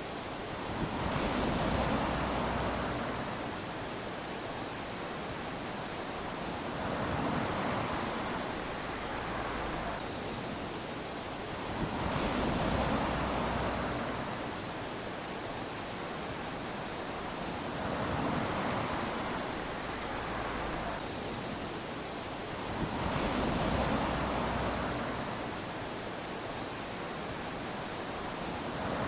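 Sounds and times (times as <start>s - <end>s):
small waves lapping on sand: 0.0s - 29.0s.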